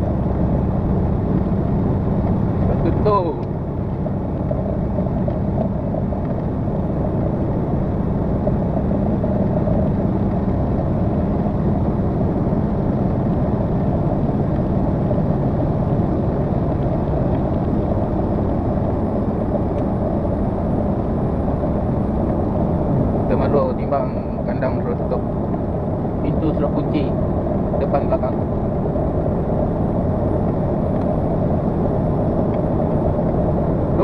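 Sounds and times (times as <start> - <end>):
truck engine and road noise drone: 0.0 - 34.0.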